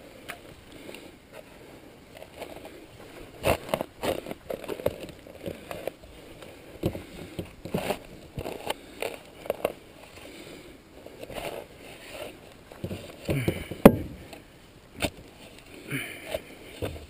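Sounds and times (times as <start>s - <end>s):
hands scraping soil and roots: 0.0s - 17.0s.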